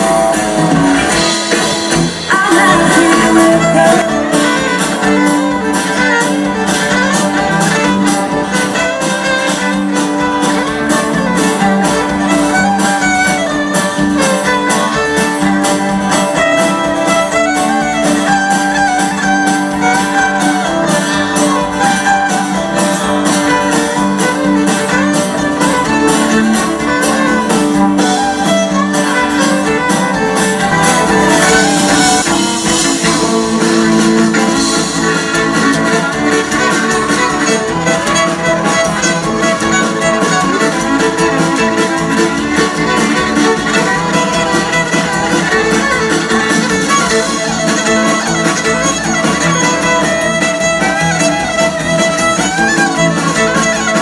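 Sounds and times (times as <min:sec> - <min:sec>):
fiddle melody: 0:00.0 - 0:54.0
guitar: 0:00.0 - 0:54.0
steady beat: 0:00.0 - 0:54.0.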